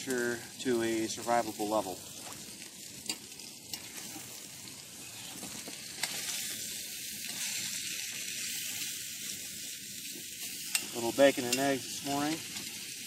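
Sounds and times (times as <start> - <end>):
bacon and eggs sizzling: 0.0 - 13.0.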